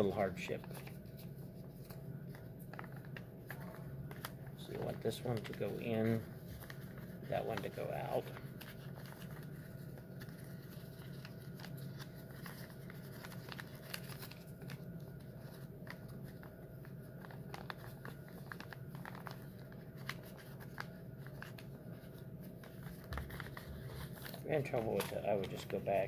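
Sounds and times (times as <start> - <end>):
low room hum: 0.0 - 26.0
paper crinkling: 0.0 - 26.0.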